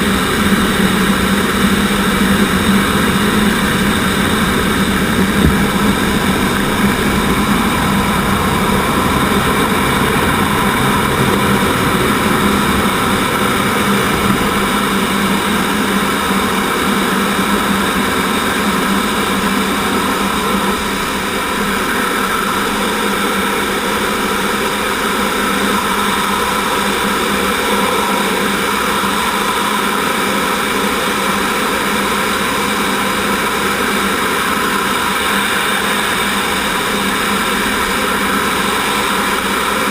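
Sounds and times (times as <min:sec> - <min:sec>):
jet engine whining tones: 0:00.0 - 0:39.9
jet engines rushing in cockpit: 0:00.0 - 0:39.9.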